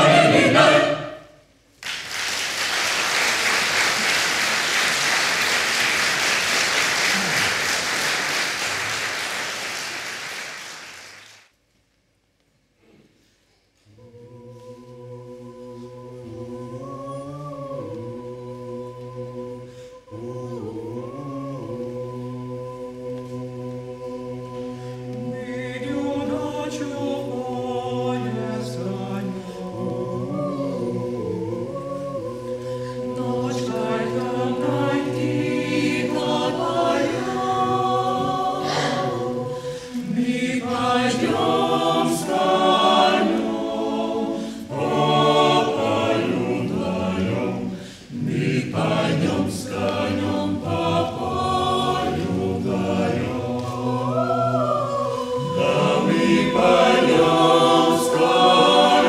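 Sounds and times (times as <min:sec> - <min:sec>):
choir singing a cappella: 0:00.0 - 0:01.5, 0:02.4 - 0:10.4, 0:13.9 - 0:59.0.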